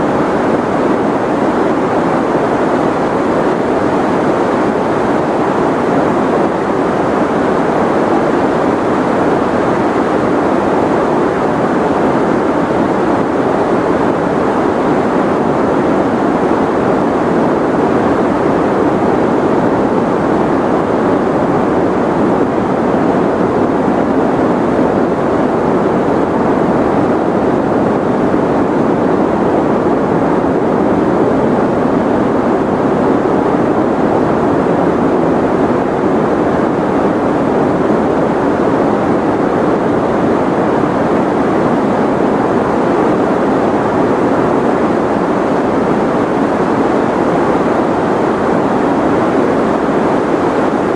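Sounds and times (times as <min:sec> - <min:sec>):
steady white noise: 0:00.0 - 0:50.9.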